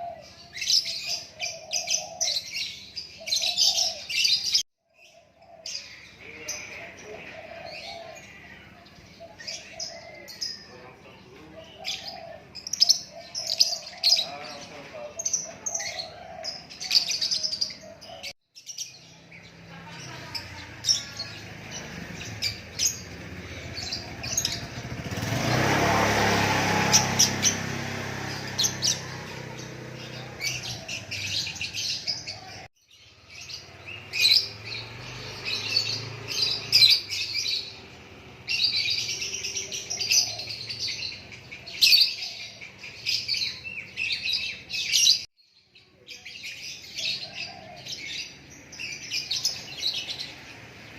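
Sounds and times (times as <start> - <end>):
songbird singing and chirping: 0.0 - 50.9.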